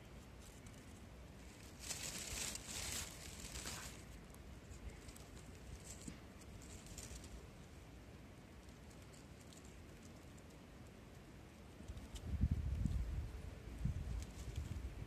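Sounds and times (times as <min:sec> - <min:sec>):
rustling: 0:00.0 - 0:07.9, 0:08.5 - 0:13.1, 0:13.8 - 0:15.0.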